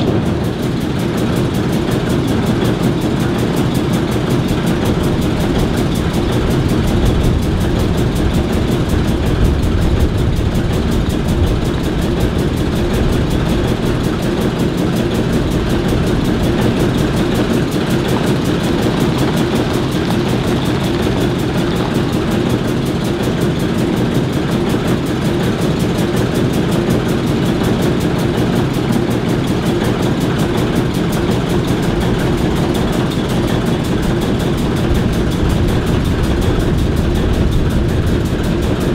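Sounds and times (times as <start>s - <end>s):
diesel locomotives idling: 0.0s - 38.9s.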